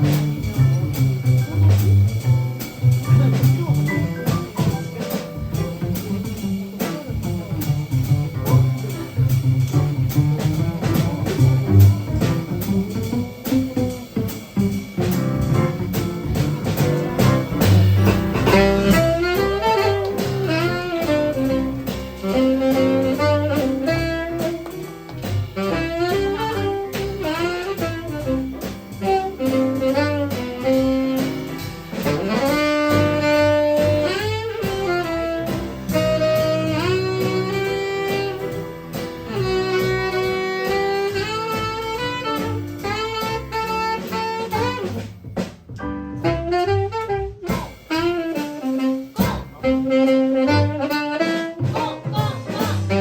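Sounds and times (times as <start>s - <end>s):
live jazz band: 0.0s - 53.0s.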